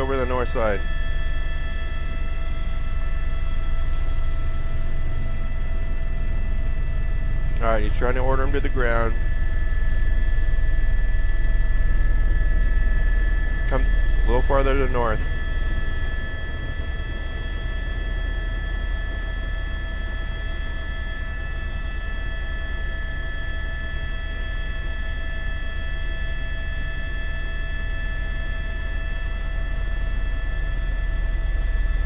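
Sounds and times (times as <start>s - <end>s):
helicopter rotor rumble: 0.0s - 32.0s
helicopter turbine whine: 0.0s - 32.0s.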